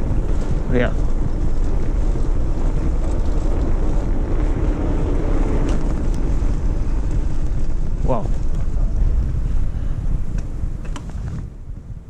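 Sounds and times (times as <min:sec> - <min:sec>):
bicycle rattling over cobblestones: 0:00.0 - 0:12.0
wind buffeting microphone: 0:00.0 - 0:12.0.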